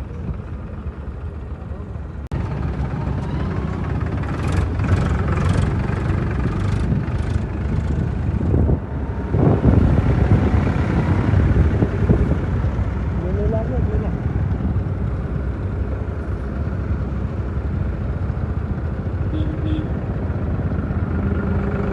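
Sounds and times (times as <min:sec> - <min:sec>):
tractor engine rumbling: 0:00.0 - 0:21.9.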